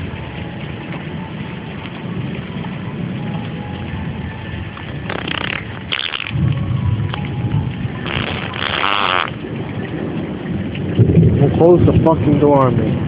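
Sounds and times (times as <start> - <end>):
low rumble of thunder: 0.0 - 13.0
steady rain: 0.0 - 13.0.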